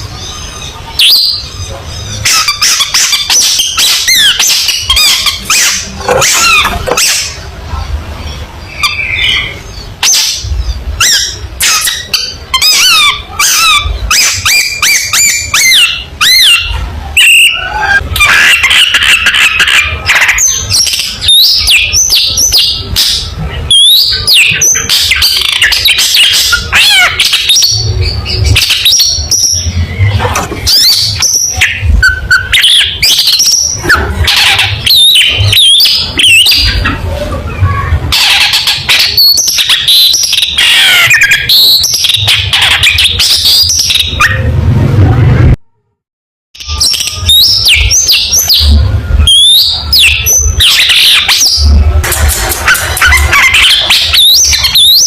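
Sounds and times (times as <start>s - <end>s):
bird singing varied song: 8.2s - 44.5s, 46.6s - 51.9s, 52.5s - 55.0s.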